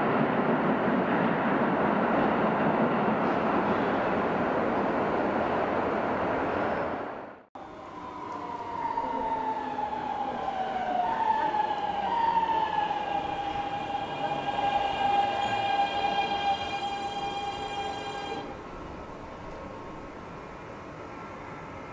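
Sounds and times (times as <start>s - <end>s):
electric train inverter whine: 0.0s - 21.9s
train noise echoing in station: 0.0s - 21.9s.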